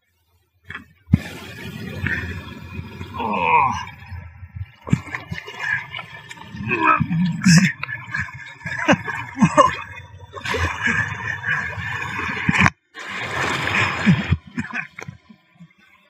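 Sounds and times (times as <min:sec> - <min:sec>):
rushing water and splashing: 0:00.7 - 0:16.0.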